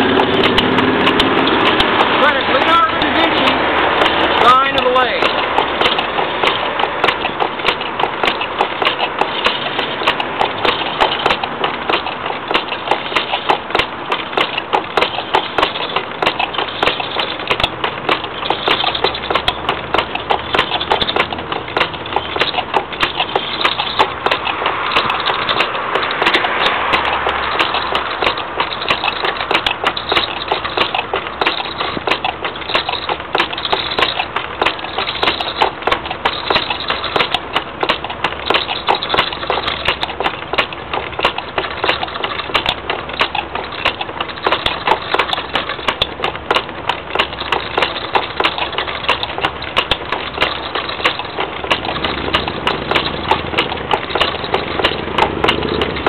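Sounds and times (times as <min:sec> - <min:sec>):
gouge knocking and scraping wood: 0:00.0 - 0:56.0.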